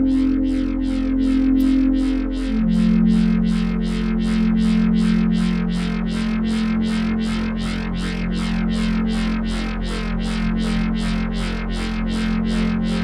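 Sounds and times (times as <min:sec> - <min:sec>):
low synthesized drone: 0:00.0 - 0:13.0
pulsing edgy synth beats: 0:00.0 - 0:13.0.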